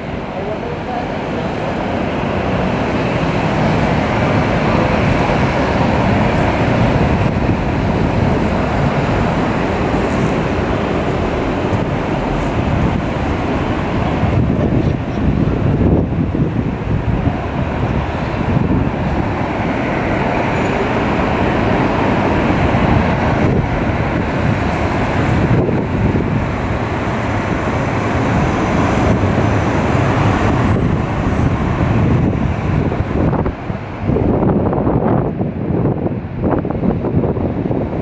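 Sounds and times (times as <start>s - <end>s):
cars passing: 0.0s - 38.0s
wind rumbling on microphone: 0.0s - 38.0s.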